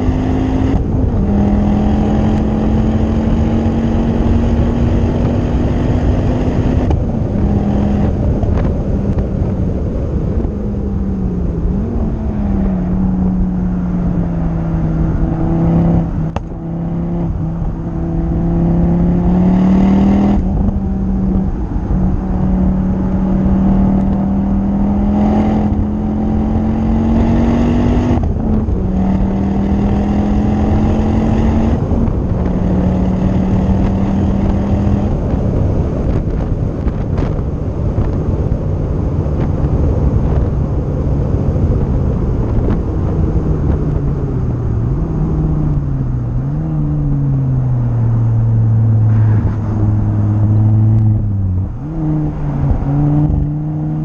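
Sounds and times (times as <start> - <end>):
car engine accelerating: 0.0 - 54.0
wind rushing: 0.0 - 54.0.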